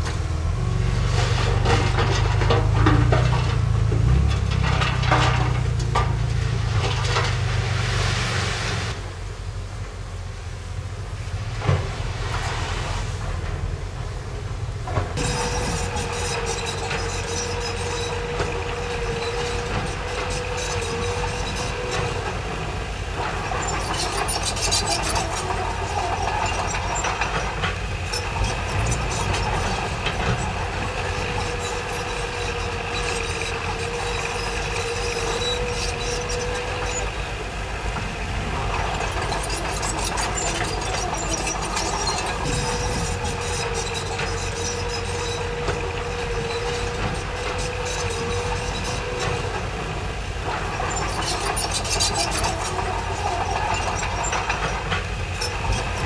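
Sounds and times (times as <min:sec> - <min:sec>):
steel tracks rattling and clanking: 0:00.0 - 0:09.2, 0:11.4 - 0:56.0
bulldozer diesel engine running: 0:00.0 - 0:56.0.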